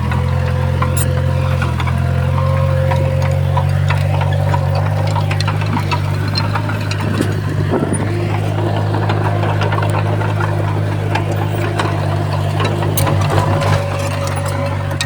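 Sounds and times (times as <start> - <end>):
bulldozer diesel engine running: 0.0 - 15.0
sharp clicks and knocks: 0.0 - 15.0.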